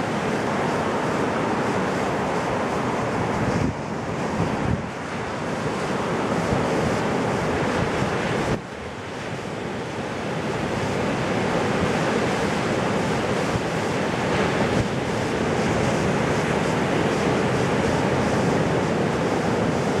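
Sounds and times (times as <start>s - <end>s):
waves breaking on beach: 0.0s - 20.0s
wind buffeting microphone: 0.1s - 20.0s.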